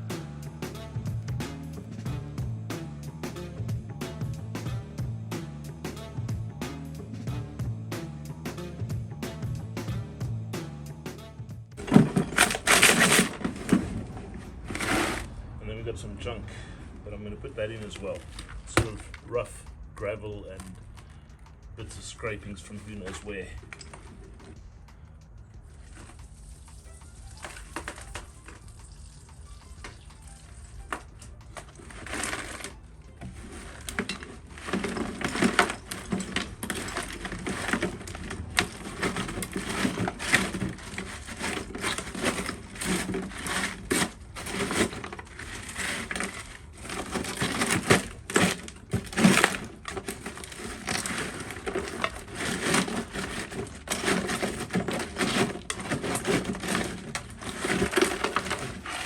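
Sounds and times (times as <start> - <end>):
gravel and rubble crunching: 11.7 - 59.0.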